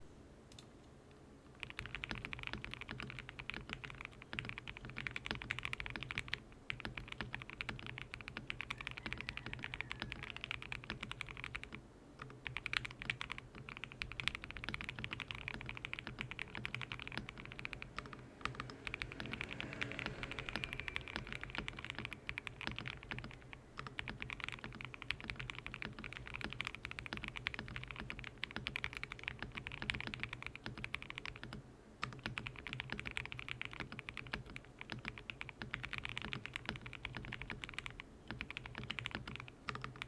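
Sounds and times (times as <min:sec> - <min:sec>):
fast mechanical keyboard typing: 0:01.6 - 0:40.0.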